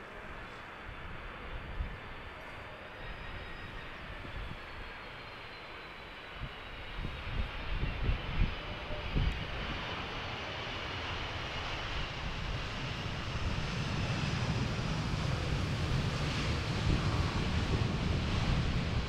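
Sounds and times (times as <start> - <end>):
jet engines rushing and whining: 0.0 - 19.0.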